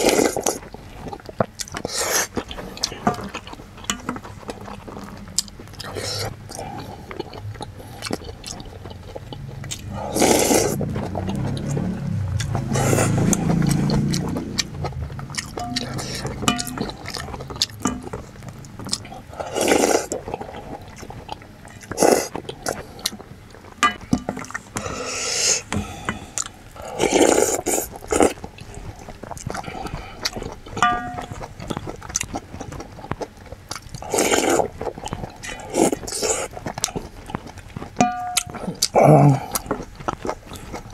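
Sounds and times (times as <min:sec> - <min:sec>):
person slurping soup: 0:00.0 - 0:04.0, 0:05.8 - 0:18.3, 0:18.9 - 0:23.3, 0:24.2 - 0:33.0, 0:33.9 - 0:37.0
chewing: 0:00.0 - 0:40.9.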